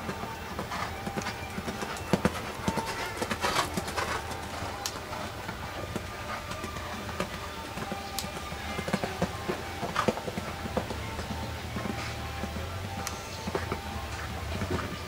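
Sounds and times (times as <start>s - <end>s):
horse hoofbeats on sand: 0.0s - 15.0s
steady background noise: 0.0s - 15.0s.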